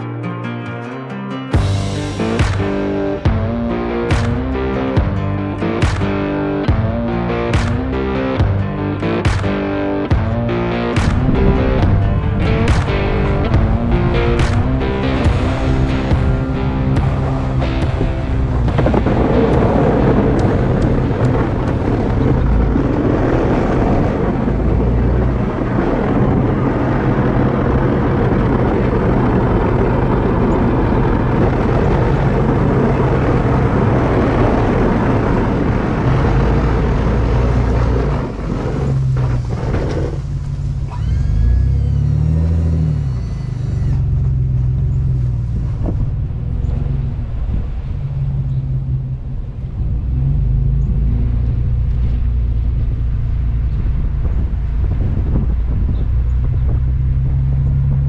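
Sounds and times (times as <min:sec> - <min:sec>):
dense rushing noise: 0:01.6 - 0:58.0
pickup engine running and revving: 0:01.6 - 0:58.0.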